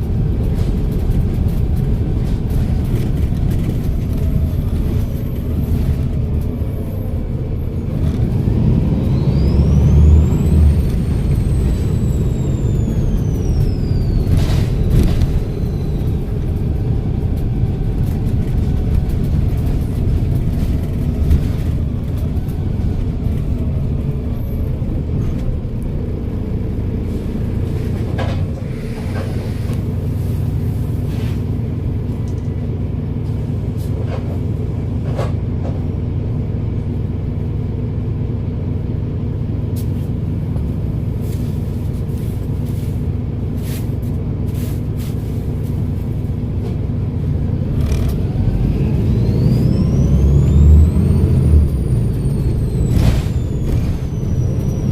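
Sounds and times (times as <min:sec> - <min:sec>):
bus diesel engine rumbling: 0:00.0 - 0:54.9.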